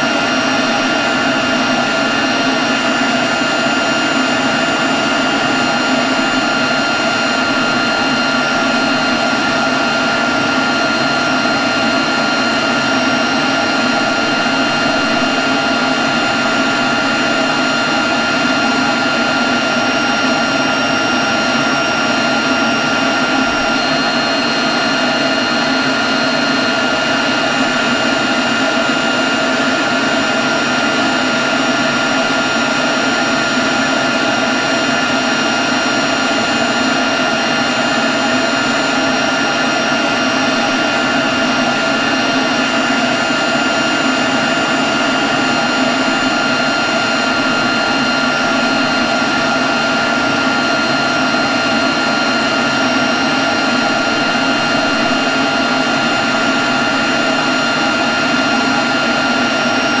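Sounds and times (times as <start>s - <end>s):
high whine: 0.0s - 60.0s
leaf blower running: 0.0s - 60.0s.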